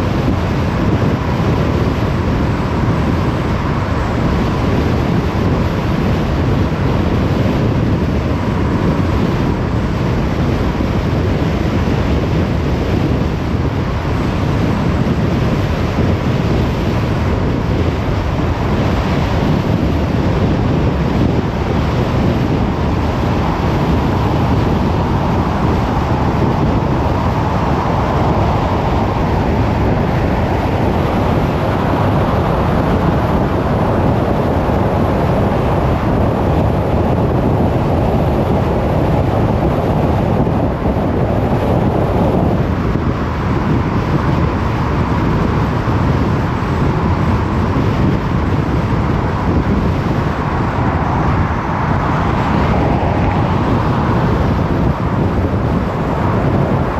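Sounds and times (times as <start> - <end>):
road and wind noise: 0.0 - 56.9.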